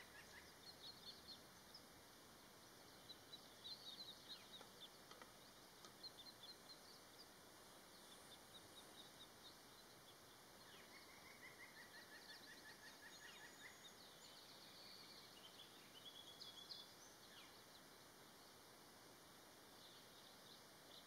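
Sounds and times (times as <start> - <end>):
songbird trilling and chirping: 0.0 - 18.6, 19.6 - 21.0
low outdoor hiss: 0.0 - 21.0.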